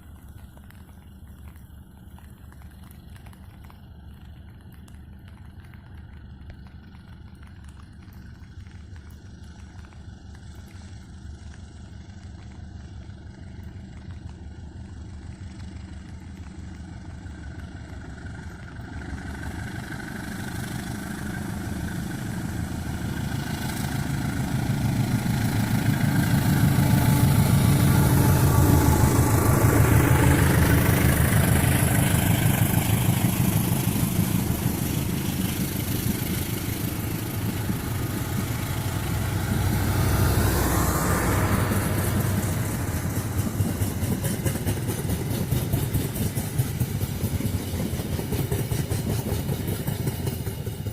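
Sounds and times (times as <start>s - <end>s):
diesel train passing: 0.0s - 50.9s.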